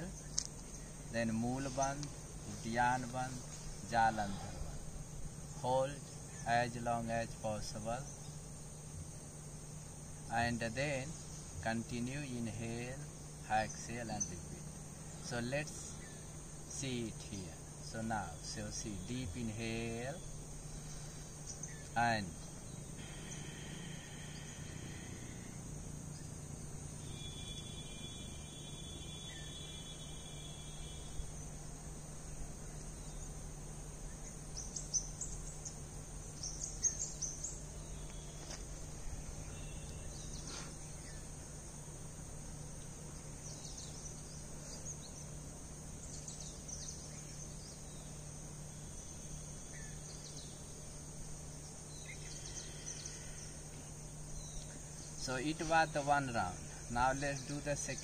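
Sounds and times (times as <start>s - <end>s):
insects droning: 0.0s - 58.0s
low steady hum: 0.0s - 58.0s.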